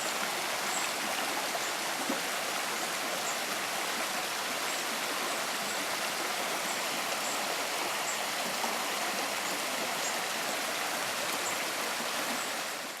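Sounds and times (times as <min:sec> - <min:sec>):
stream water rushing over stones: 0:00.0 - 0:13.0.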